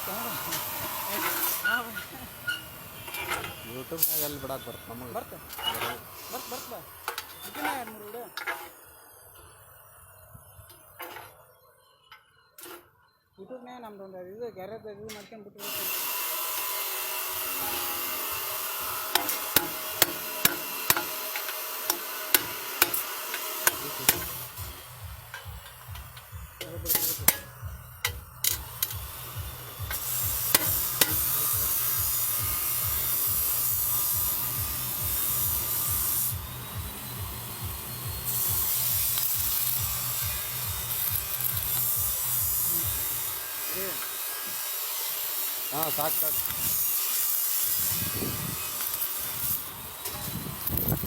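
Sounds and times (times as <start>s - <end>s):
machine running with pulse and hiss: 0.0s - 8.2s, 15.6s - 51.0s.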